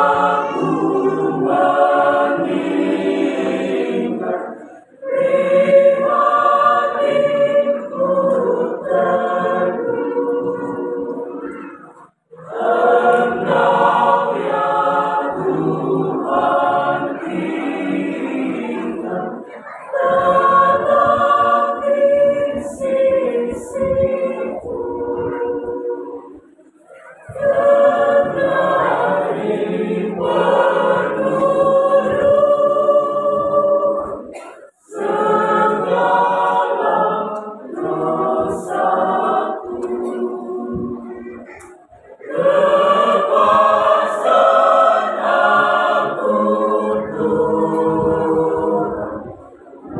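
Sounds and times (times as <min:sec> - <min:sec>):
church choir singing unaccompanied: 0:00.0 - 0:49.9.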